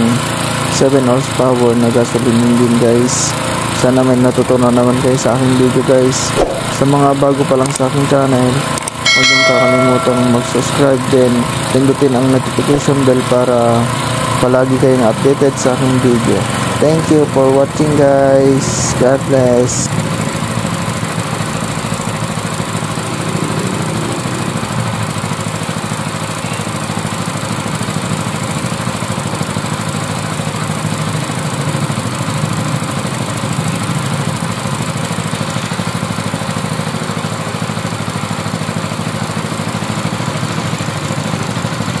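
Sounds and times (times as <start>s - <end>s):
water pump engine running: 0.0s - 9.4s, 10.4s - 42.0s.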